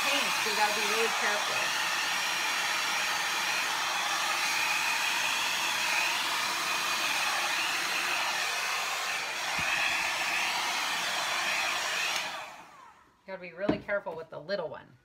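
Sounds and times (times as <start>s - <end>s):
blow dryer running: 0.0s - 13.0s.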